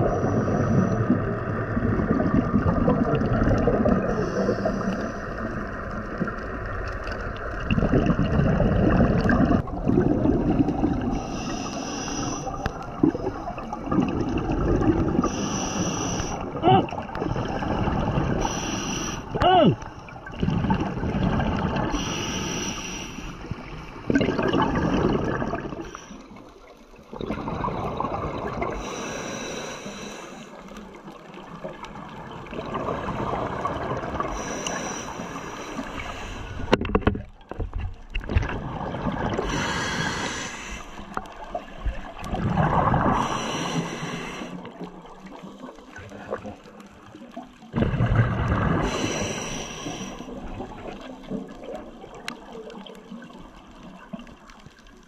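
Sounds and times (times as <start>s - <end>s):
regulator exhale bubbling: 0.0s - 6.5s, 7.6s - 26.5s, 27.1s - 30.9s, 32.1s - 36.8s, 38.3s - 46.6s, 47.6s - 52.4s.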